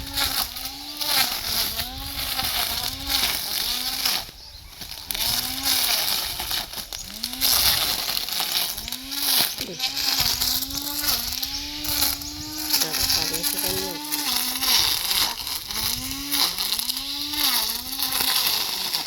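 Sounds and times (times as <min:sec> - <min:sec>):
hiss of cut grass: 0:00.0 - 0:19.0
lawn mower engine cutting grass: 0:00.0 - 0:19.0.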